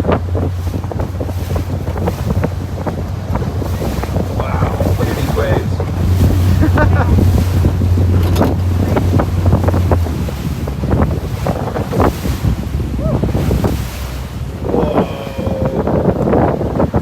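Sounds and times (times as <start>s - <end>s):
boat engine drone: 0.0s - 17.0s
sea water around hull: 0.0s - 17.0s
wind buffeting microphone: 0.0s - 17.0s.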